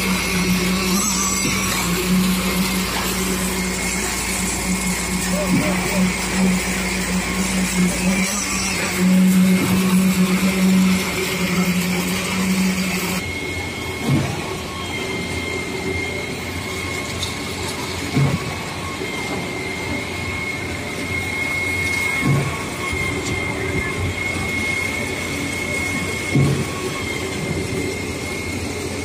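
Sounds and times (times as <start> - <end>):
concrete pump hum: 0.0 - 29.0
high whine: 0.0 - 29.0.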